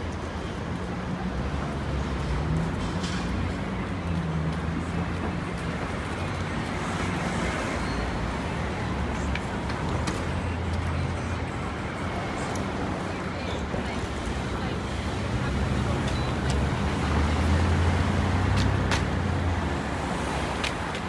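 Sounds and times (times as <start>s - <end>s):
street traffic noise: 0.0s - 21.0s
vehicle engines humming: 0.0s - 21.0s.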